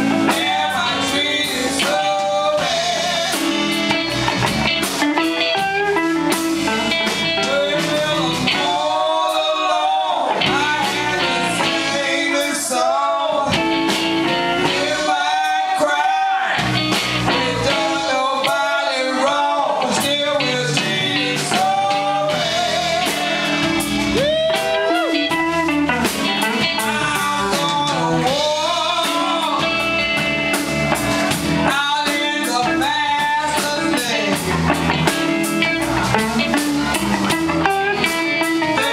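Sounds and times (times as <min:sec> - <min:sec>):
live blues band playing: 0:00.0 - 0:38.9.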